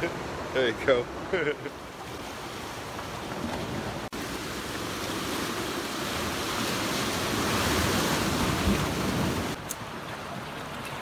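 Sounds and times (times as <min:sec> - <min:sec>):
ocean surf on rocks: 0:00.0 - 0:11.0.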